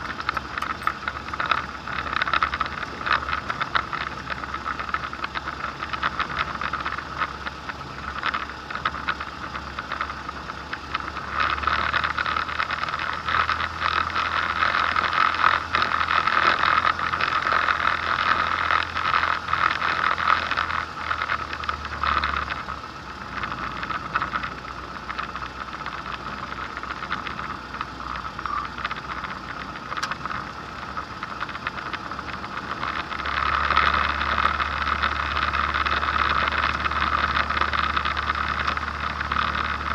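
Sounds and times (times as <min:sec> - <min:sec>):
propeller engine running: 0:00.0 - 0:39.9.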